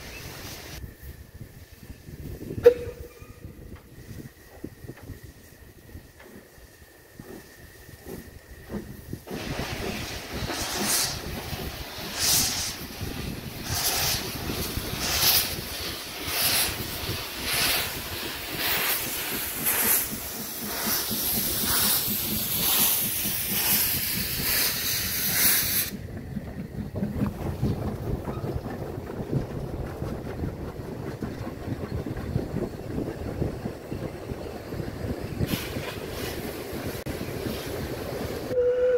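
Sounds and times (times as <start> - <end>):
wind on microphone: 0.0 - 6.2, 7.2 - 20.4, 22.5 - 38.9
steam locomotive exhaust chuffs: 0.1 - 38.9.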